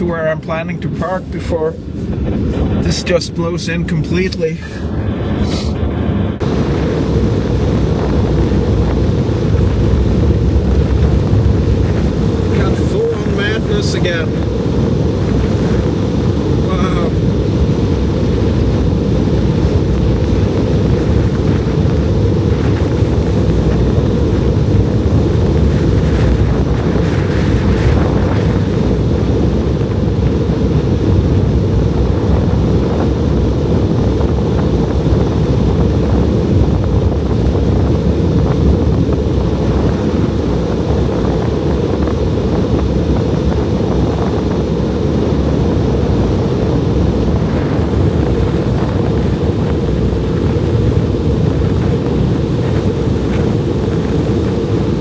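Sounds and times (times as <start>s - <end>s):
blizzard wind buffeting microphone: 0.0s - 55.0s.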